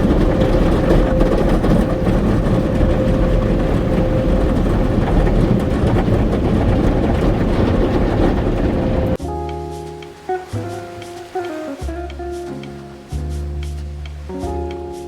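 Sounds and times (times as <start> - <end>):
car wash water and machinery: 0.0 - 9.4, 10.0 - 15.0
acoustic guitar music: 0.0 - 15.0.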